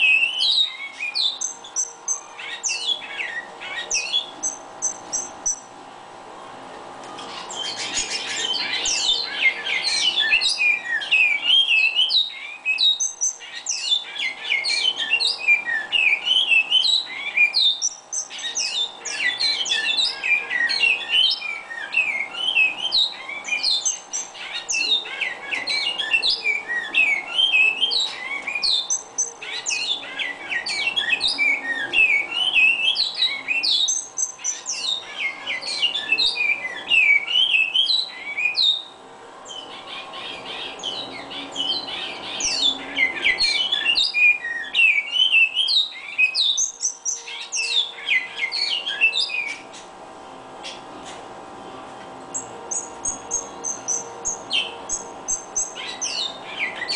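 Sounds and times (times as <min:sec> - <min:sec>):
bird whistling song: 0:00.0 - 0:05.7, 0:07.2 - 0:49.9, 0:52.3 - 0:56.9
faint steady hum: 0:00.0 - 0:56.9.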